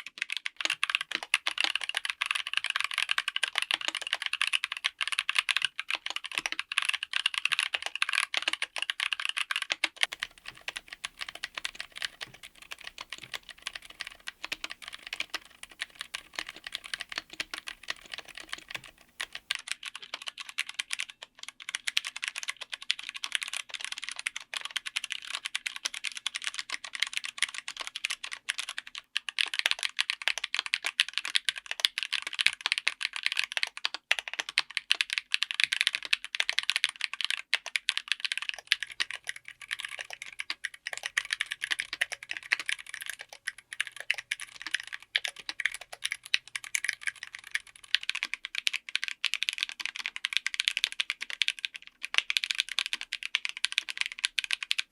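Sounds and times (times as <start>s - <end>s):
mechanical keyboard typing: 0.0s - 54.9s.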